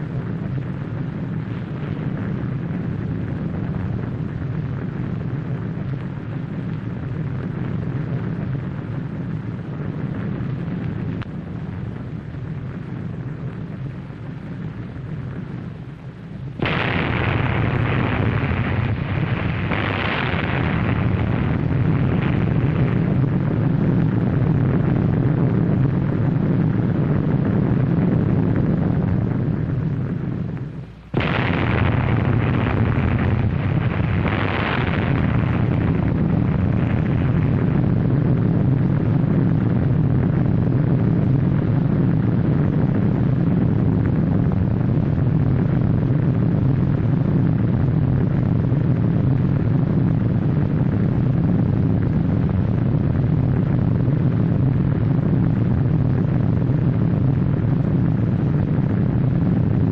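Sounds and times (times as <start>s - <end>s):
explosion deep rumble: 0.0s - 59.9s.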